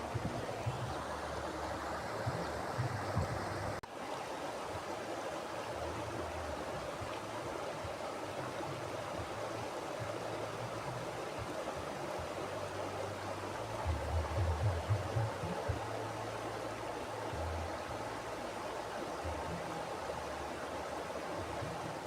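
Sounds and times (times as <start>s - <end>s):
river rushing over rocks: 0.0s - 22.0s.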